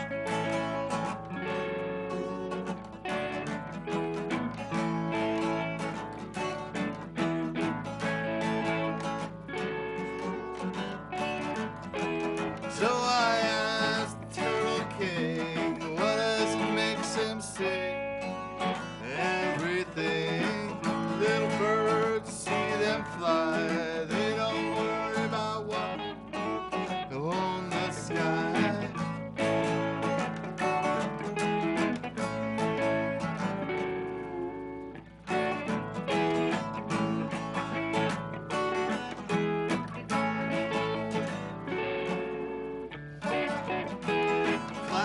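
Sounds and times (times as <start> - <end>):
country acoustic guitar: 0.0 - 45.0.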